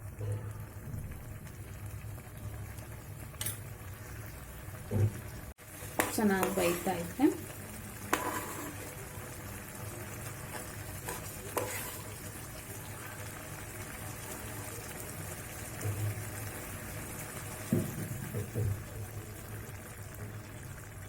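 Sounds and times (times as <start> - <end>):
soft sizzle in pan: 0.0 - 21.0.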